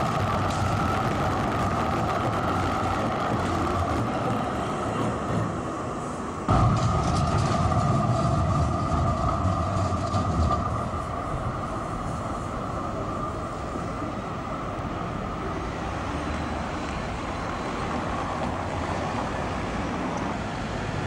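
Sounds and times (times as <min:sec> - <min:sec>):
trams rumbling on track: 0:00.0 - 0:21.0.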